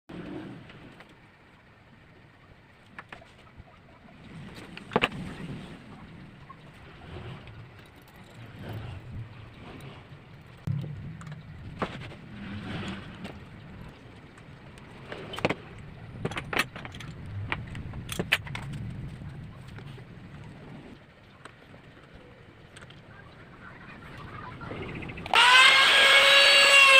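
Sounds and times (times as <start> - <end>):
low uneven rumble: 0.1 - 25.4.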